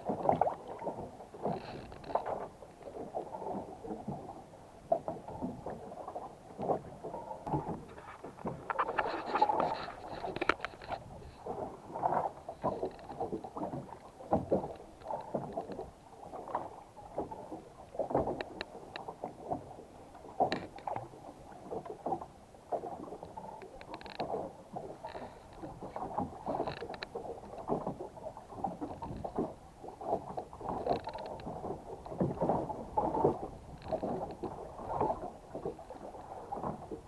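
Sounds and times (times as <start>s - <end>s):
water slapping against boat hull: 0.0s - 37.0s.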